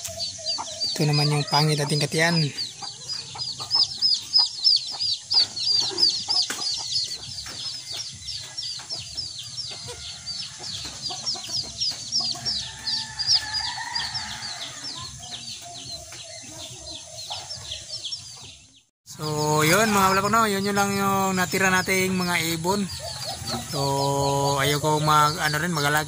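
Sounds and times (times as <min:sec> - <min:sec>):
birds peeping: 0:00.0 - 0:26.0.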